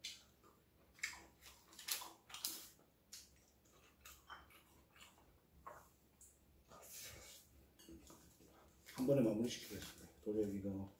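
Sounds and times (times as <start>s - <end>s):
quiet chewing: 0.0s - 9.0s.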